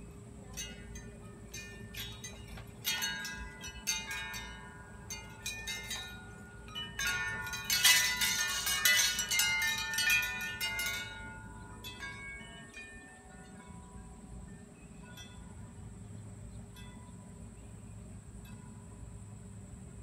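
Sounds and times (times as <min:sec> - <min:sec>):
metal wind chime ringing: 0:00.4 - 0:16.1, 0:16.7 - 0:17.7.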